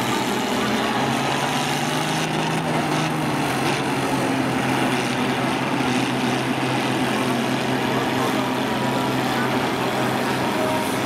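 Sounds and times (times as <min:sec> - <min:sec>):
combine engines droning: 0:00.0 - 0:11.0.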